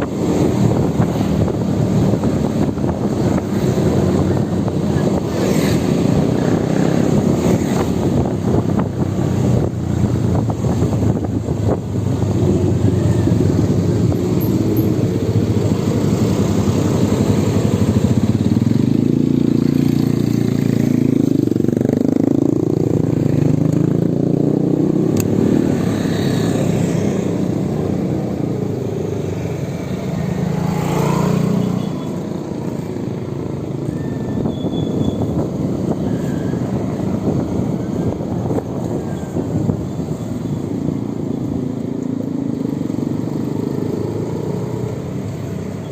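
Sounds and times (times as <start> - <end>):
wind rumbling on microphone: 0.0 - 30.3, 32.2 - 41.5.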